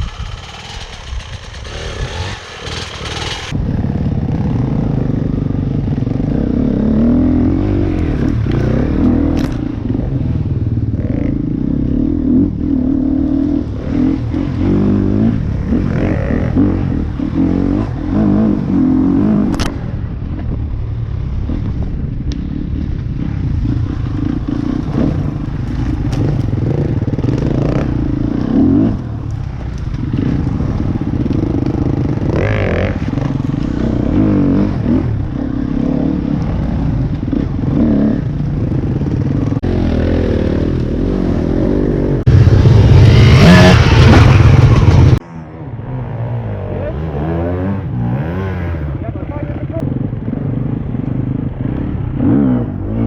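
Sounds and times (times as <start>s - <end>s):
dirt bike engine revving: 0.0s - 19.8s, 22.4s - 45.2s.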